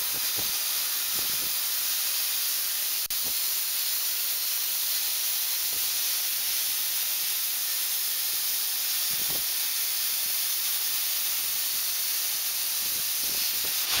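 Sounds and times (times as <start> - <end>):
welding arc hissing: 0.0 - 14.0.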